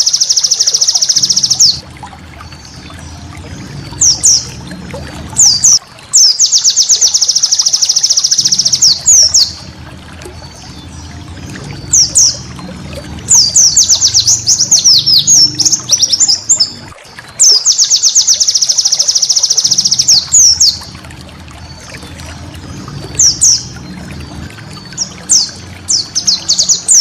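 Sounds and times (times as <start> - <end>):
bird singing and trilling: 0.0 - 1.8, 2.4 - 9.8, 10.4 - 21.0, 21.6 - 27.0
low steady hum: 0.0 - 27.0.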